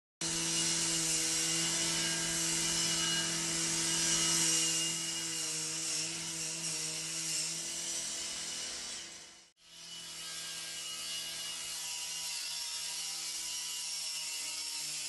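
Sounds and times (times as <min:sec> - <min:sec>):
angle grinder cutting metal: 0:00.2 - 0:15.0.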